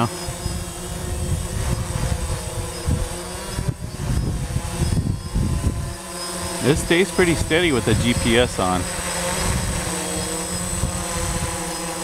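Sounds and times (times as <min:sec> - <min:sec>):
wind buffeting microphone: 0:00.0 - 0:11.7
drone propellers humming: 0:00.0 - 0:12.0.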